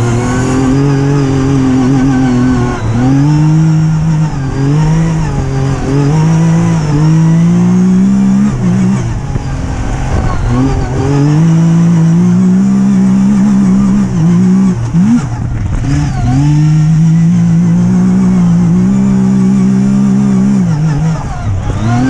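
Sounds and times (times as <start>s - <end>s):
engine revving: 0.0s - 22.0s.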